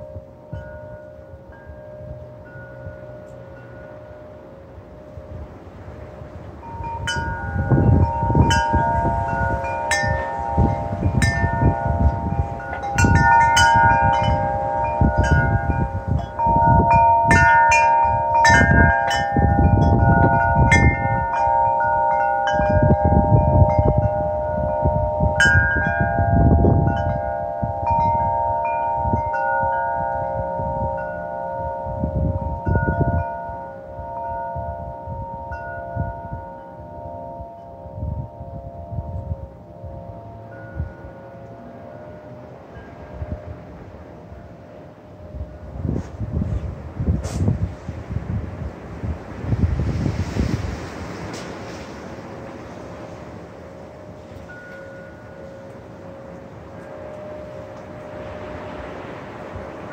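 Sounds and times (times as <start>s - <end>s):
wind chimes ringing: 0.0s - 59.9s
wind gusts: 0.0s - 59.9s.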